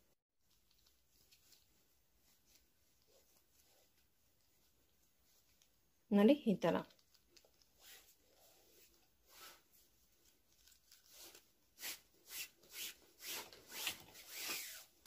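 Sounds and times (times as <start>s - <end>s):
cord swishing through knots: 0.4s - 6.1s, 6.8s - 15.0s.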